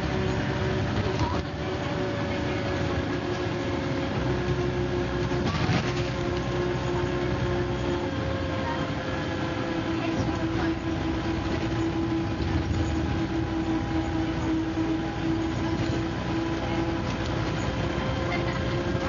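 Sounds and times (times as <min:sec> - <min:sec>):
bus engine rumble: 0:00.0 - 0:19.0
drivetrain whine: 0:00.0 - 0:19.0.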